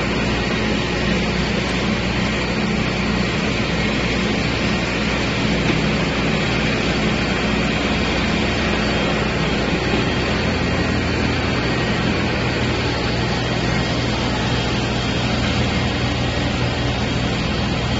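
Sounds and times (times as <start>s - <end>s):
concrete floor grinder grinding: 0.0s - 17.9s
dust extractor running: 0.0s - 17.9s.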